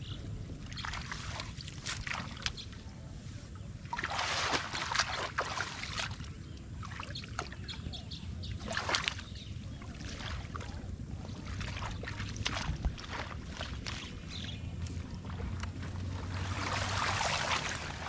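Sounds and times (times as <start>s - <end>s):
hands splashing in shallow water: 0.6s - 2.8s, 3.8s - 7.6s, 8.5s - 18.0s.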